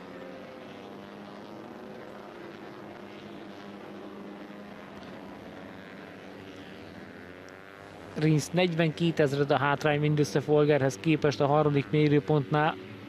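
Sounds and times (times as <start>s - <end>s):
racing motorcycle engine: 0.0s - 13.0s.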